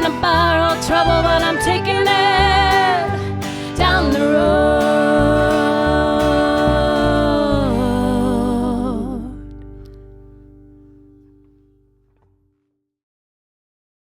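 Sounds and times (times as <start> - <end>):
guitar and bass: 0.0 - 12.6.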